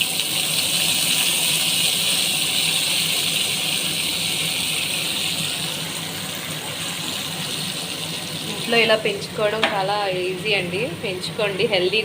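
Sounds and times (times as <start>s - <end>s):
leaves sizzling in hot oil: 0.0s - 12.0s.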